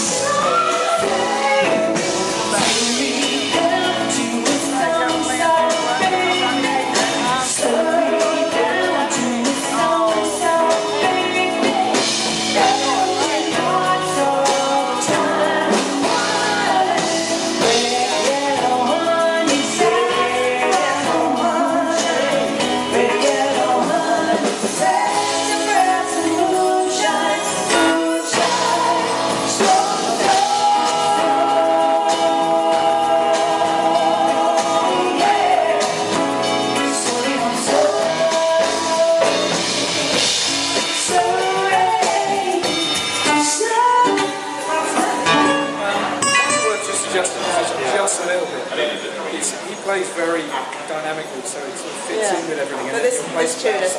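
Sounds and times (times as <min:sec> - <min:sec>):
woman singing lead: 0:00.0 - 0:47.9
live pop-soul band: 0:00.0 - 0:53.9.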